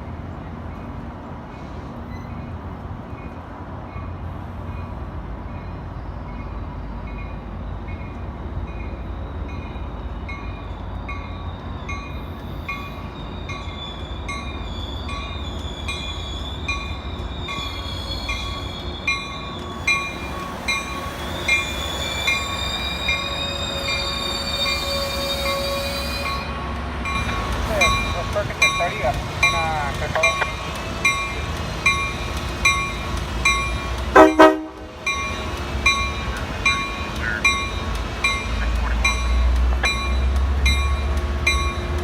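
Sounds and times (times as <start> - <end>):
train rumbling past: 0.0 - 42.0
wheels squealing on rail: 1.5 - 2.6, 5.5 - 42.0.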